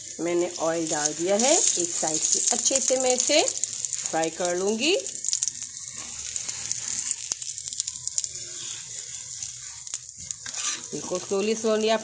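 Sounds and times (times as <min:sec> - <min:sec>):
oil sizzling and crackling: 0:00.0 - 0:12.0.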